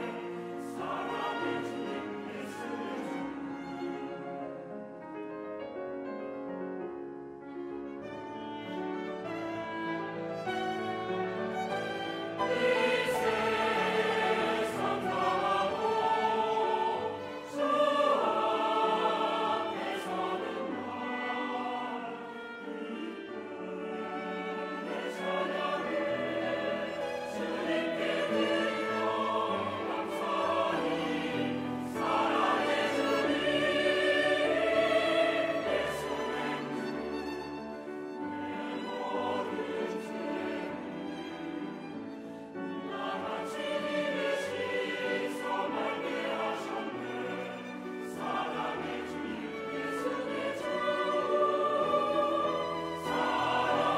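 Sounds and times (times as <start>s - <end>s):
mixed choir singing: 0.0s - 4.2s, 8.4s - 53.9s
grand piano accompaniment: 0.0s - 53.9s.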